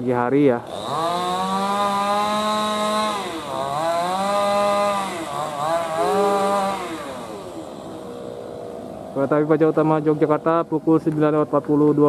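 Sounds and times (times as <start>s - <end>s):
small engine revving: 0.5s - 10.6s.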